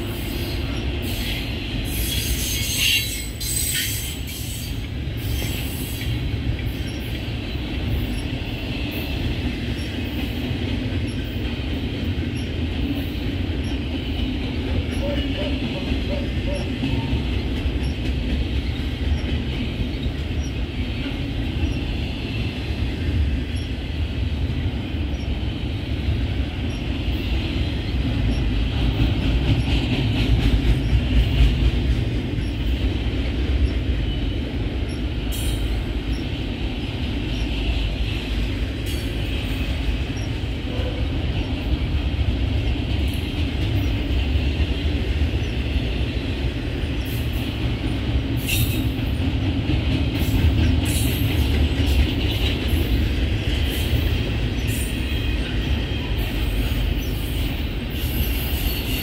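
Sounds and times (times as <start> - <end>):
train clanks: 0.0 - 59.0
train wheels rumbling on rails: 0.0 - 59.0.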